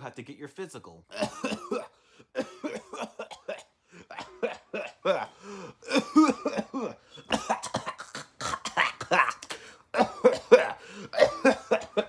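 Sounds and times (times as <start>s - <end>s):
person coughing: 1.1s - 12.0s.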